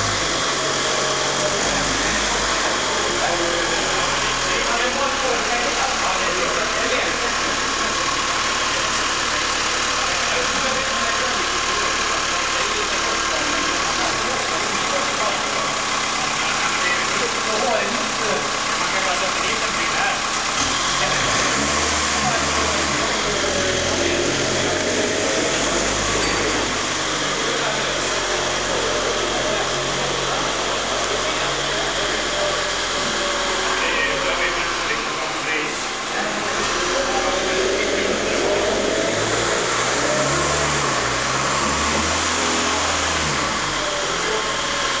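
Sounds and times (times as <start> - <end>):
forklift engine running: 0.0 - 45.0.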